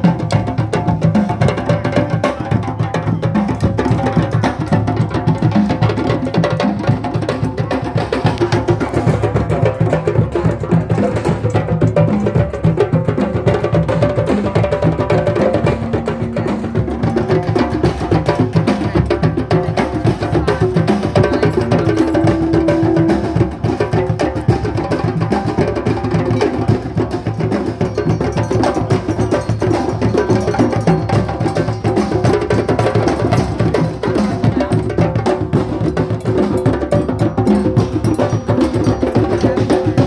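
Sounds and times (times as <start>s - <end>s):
hand drums playing together: 0.0s - 40.0s.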